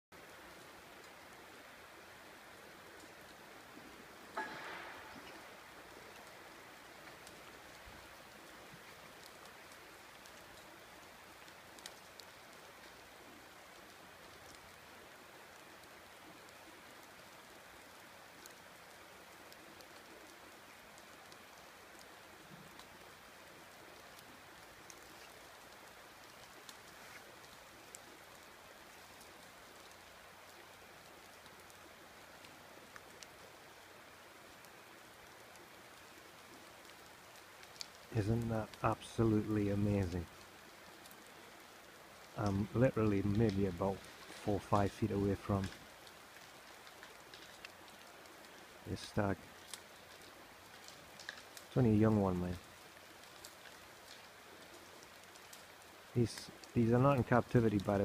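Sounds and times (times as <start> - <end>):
light rain hiss: 0.1 - 58.0
raindrop ticks: 0.2 - 58.0.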